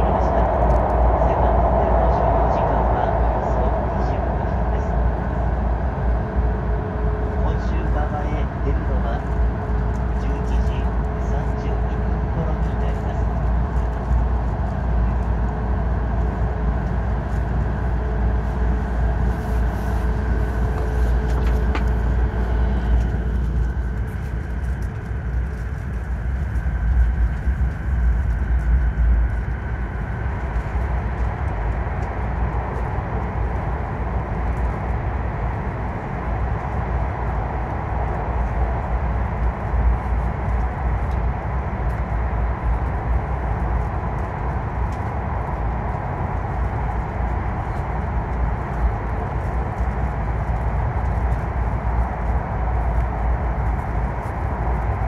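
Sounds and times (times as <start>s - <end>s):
train rumbling in tunnel: 0.0s - 55.0s.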